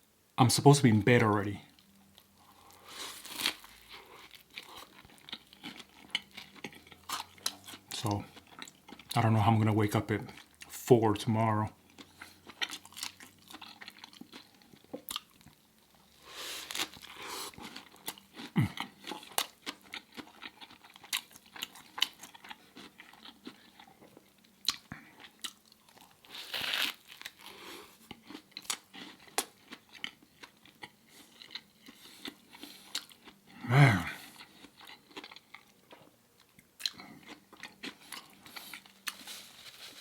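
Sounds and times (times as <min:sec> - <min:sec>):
person chewing and crunching food: 0:01.5 - 0:10.8, 0:11.4 - 0:40.0.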